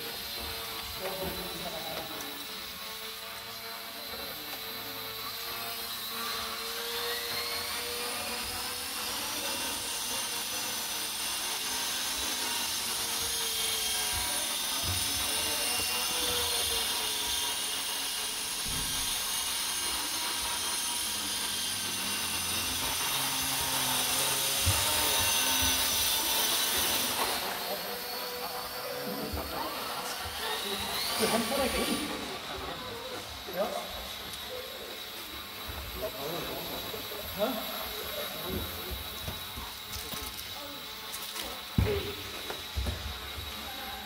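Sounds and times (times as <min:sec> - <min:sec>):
electric motor whine: 0:00.0 - 0:44.0.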